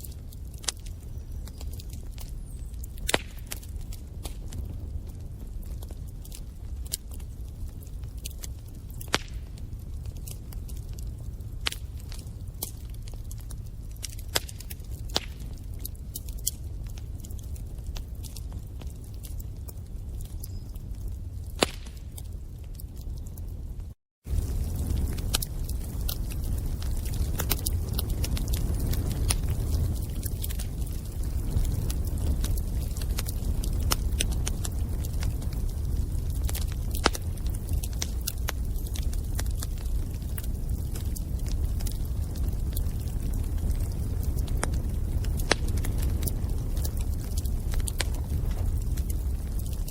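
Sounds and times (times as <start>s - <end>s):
bonfire flames rumbling: 0.0s - 49.9s
wood crackling and popping: 0.0s - 49.9s.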